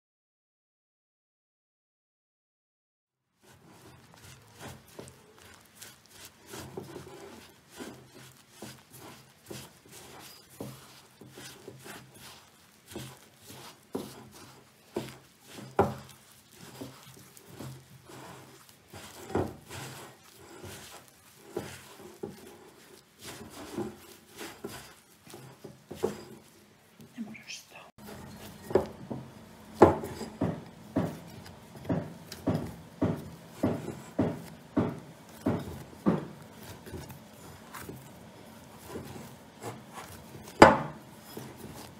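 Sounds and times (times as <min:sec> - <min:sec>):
dough scraping against glass bowl: 0:03.4 - 0:41.9.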